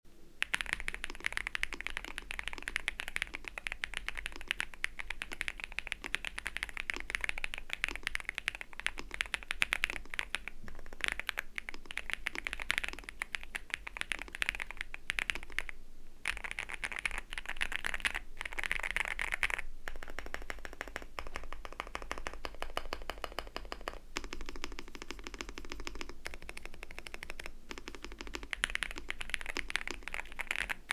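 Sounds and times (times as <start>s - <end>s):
mechanical keyboard typing: 0.4s - 30.9s.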